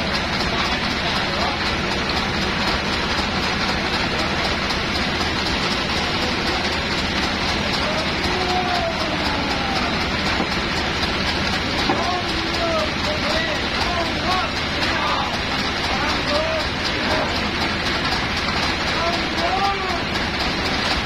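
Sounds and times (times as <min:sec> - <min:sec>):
sawmill machinery running: 0:00.0 - 0:21.0.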